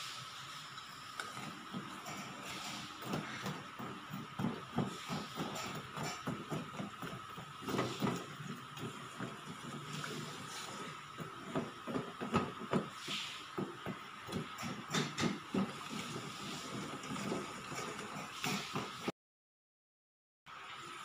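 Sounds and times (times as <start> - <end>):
water pouring from jug: 0.5 - 19.0.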